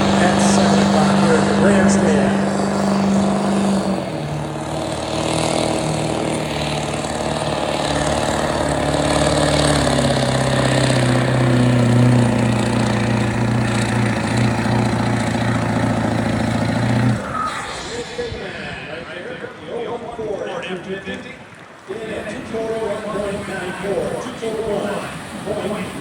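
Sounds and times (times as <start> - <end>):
diesel truck engine at full throttle: 0.0 - 20.5, 21.5 - 26.0.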